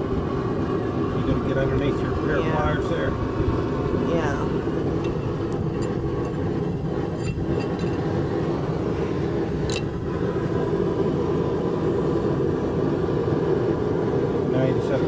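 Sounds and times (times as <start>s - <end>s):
forge roaring: 0.0s - 15.0s.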